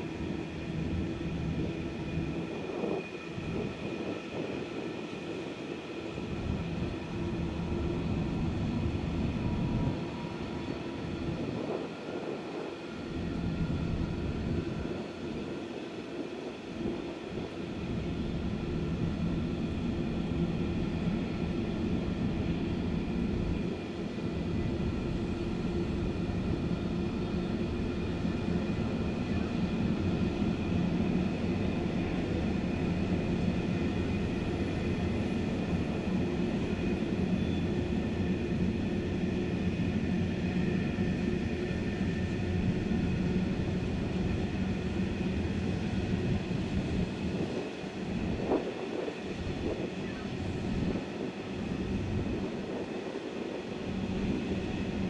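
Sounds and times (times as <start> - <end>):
constant whine: 0.0 - 55.0.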